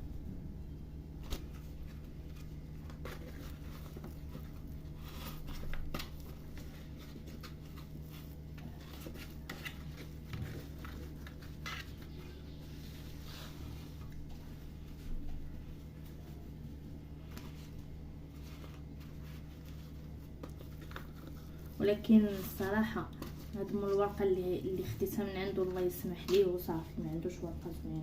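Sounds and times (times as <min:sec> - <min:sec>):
steady low hum: 0:00.0 - 0:28.0
pastry sheets crinkling: 0:01.1 - 0:28.0.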